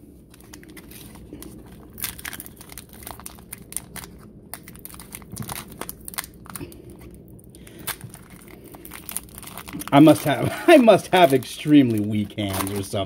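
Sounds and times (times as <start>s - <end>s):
foil wrapper crinkling: 0.2s - 13.0s.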